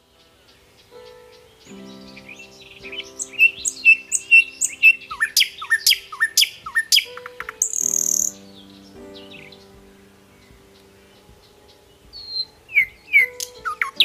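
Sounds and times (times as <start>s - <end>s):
small birds singing: 0.0s - 14.0s
soft background music: 0.0s - 14.0s.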